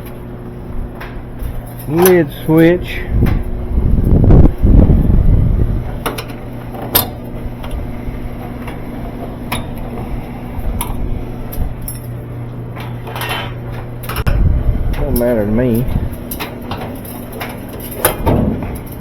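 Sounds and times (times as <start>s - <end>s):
washing machine motor humming: 0.0s - 19.0s.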